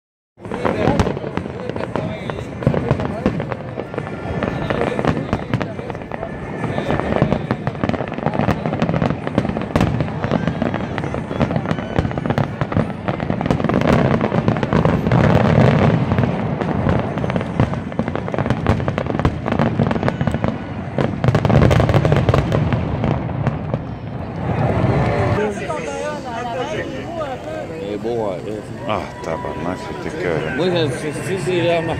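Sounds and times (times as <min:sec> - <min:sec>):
fireworks booming and crackling: 0:00.4 - 0:31.9.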